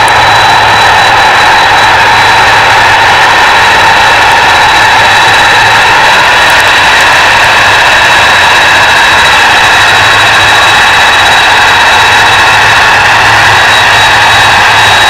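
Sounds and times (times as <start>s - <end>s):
high engine whine: 0.0s - 15.0s
jet engines rushing: 0.0s - 15.0s.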